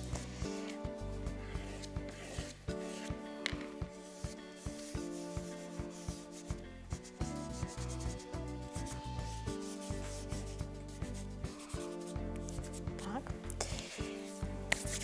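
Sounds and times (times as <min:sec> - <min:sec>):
background music: 0:00.0 - 0:15.0
pastel scratching on paper: 0:00.0 - 0:15.0.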